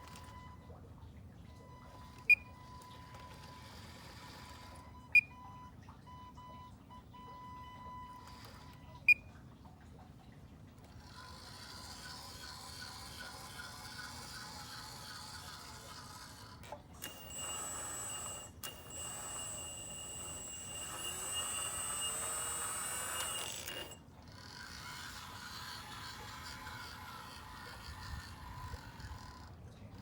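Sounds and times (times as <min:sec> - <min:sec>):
hydraulic pump whining: 0:00.0 - 0:00.9, 0:01.5 - 0:09.2, 0:10.8 - 0:30.0.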